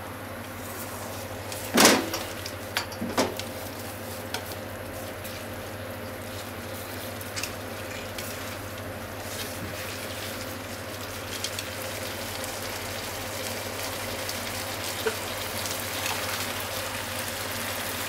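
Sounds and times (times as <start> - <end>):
tofu sizzling in a frying pan: 3.4 - 18.0.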